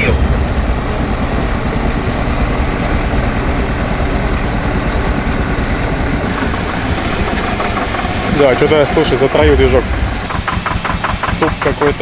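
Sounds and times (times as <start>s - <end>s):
engine idling roughly: 0.0s - 12.0s.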